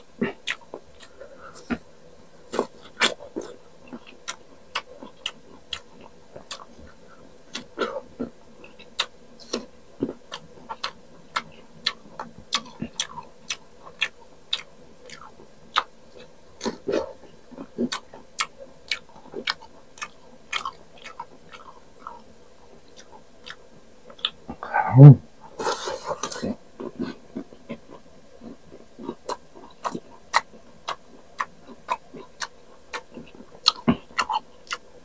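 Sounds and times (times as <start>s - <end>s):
crunchy chewing of mango slices: 0.0s - 1.9s, 2.5s - 24.4s, 25.5s - 34.9s.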